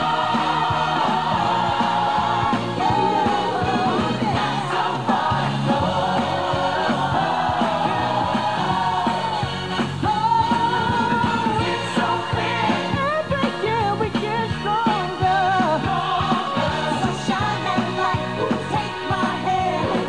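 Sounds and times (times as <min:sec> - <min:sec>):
full band playing: 0:00.0 - 0:20.0.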